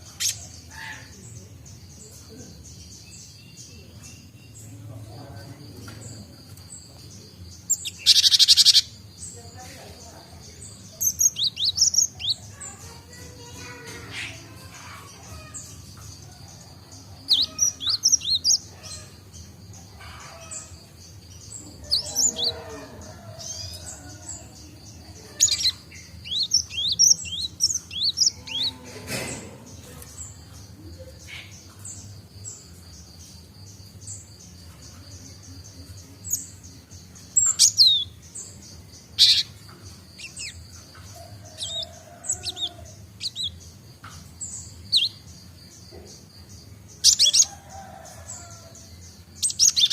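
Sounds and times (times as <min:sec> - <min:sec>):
young bird chirping song: 0:00.0 - 0:49.9.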